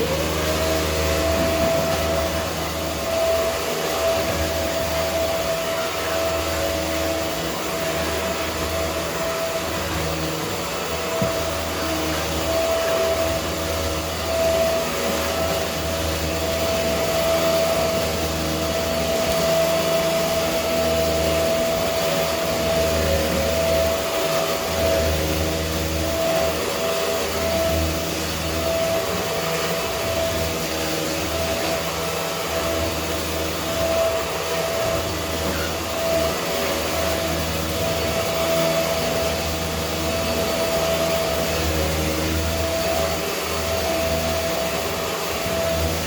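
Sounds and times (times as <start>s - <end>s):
vacuum cleaner running: 0.0s - 46.0s.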